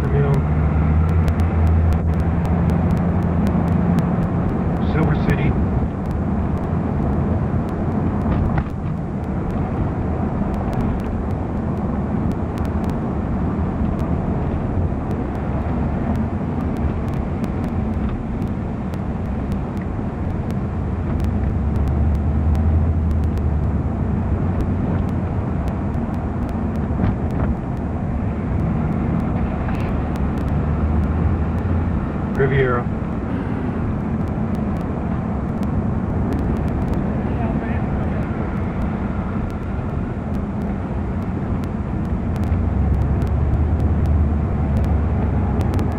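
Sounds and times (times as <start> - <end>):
car engine and tyre rumble: 0.0 - 45.9
passing traffic: 0.0 - 45.9.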